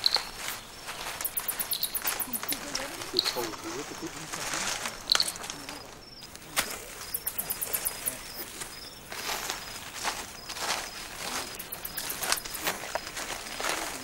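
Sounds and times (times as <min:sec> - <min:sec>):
rustling through grass and leaves: 0:00.0 - 0:14.0.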